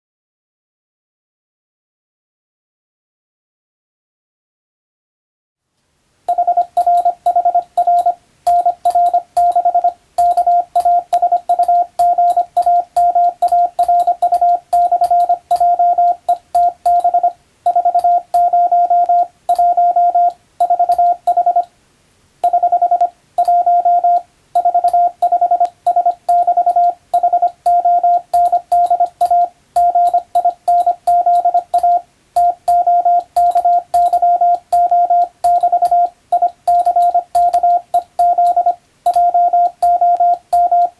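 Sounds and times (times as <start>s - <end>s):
faint keying clicks: 6.3s - 21.7s, 22.4s - 40.9s
morse code beeps: 6.3s - 21.7s, 22.4s - 40.9s.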